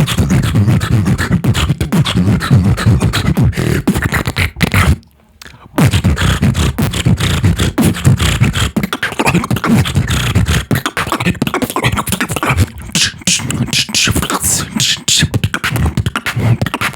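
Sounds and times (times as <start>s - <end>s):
beatboxing: 0.0s - 16.9s.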